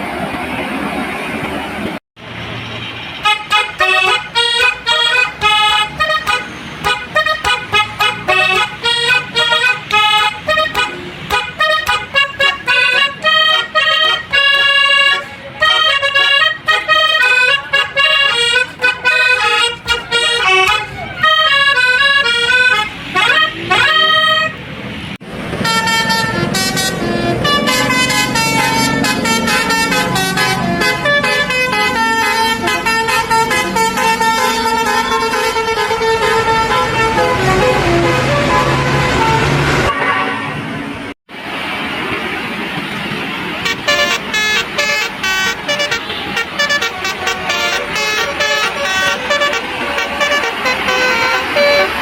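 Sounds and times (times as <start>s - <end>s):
multi-note air horns blaring: 3.1s - 24.7s, 25.6s - 40.7s, 43.6s - 52.0s.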